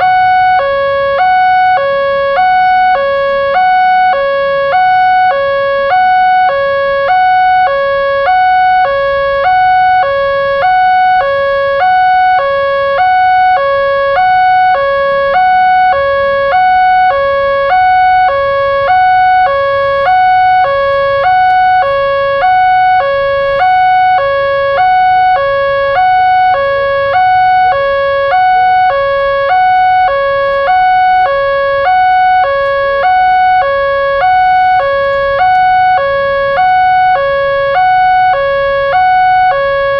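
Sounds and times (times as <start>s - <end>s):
railroad crossing two-tone alarm: 0.0s - 39.9s.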